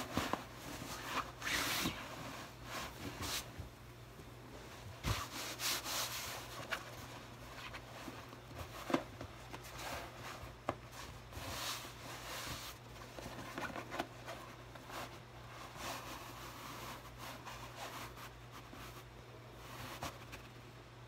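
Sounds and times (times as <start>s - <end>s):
clothing rustling and rubbing: 0.0s - 20.7s.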